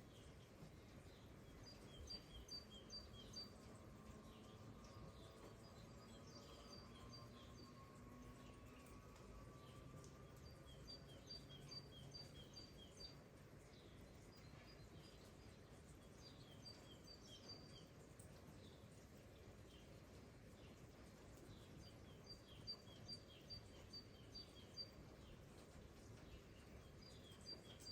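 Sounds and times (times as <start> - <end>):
faint outdoor background hiss: 0.0 - 27.9.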